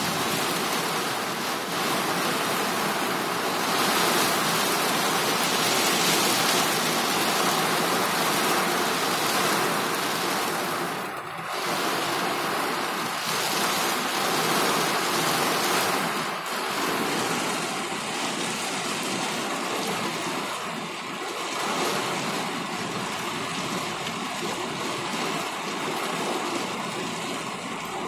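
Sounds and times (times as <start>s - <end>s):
heavy rain on car roof: 0.0s - 28.0s.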